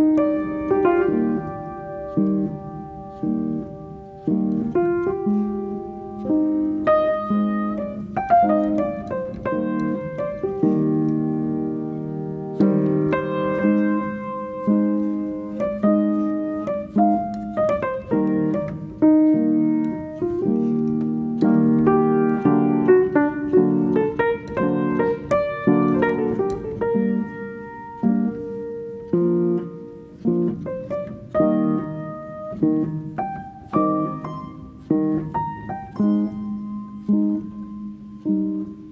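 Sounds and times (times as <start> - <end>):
slow piano music: 0.0 - 38.9.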